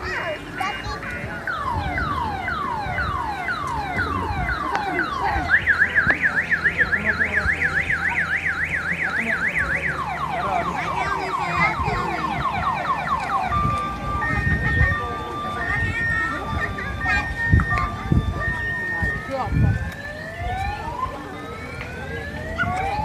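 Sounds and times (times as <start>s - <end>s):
car alarm sweeping tones: 1.0s - 23.0s.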